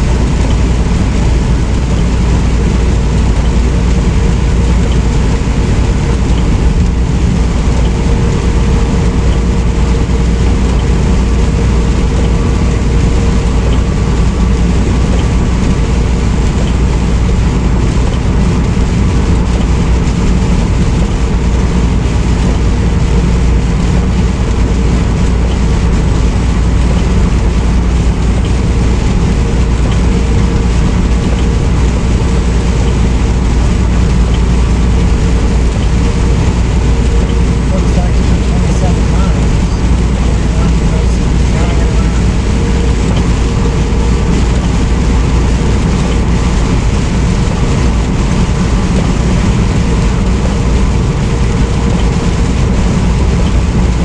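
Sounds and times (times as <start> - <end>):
faint steady hum: 0.0 - 54.0
truck engine and road rumble: 0.0 - 54.0.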